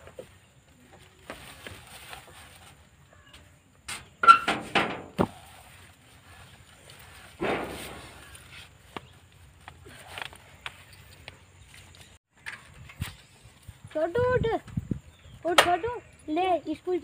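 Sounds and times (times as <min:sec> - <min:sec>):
rope cot creaking and rustling: 0:00.0 - 0:13.9.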